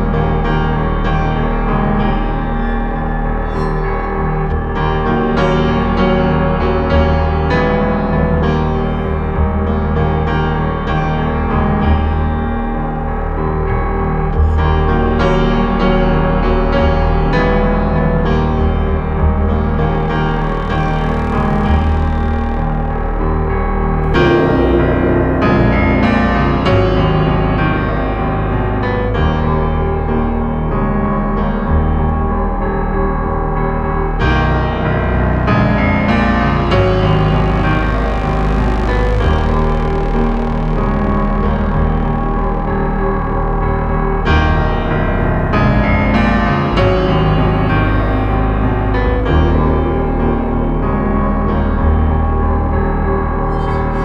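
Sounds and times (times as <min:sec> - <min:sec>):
piano-like keyboard notes: 0:00.0 - 0:54.0
steady bass line: 0:00.0 - 0:54.0.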